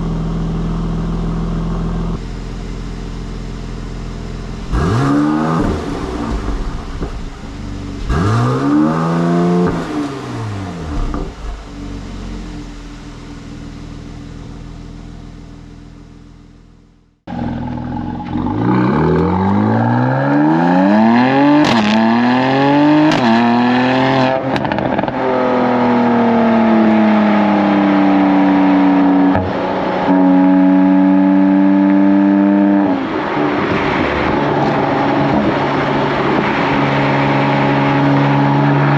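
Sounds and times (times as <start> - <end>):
car engine revving and idling: 0.0 - 38.9
car exhaust accelerating: 0.0 - 38.9.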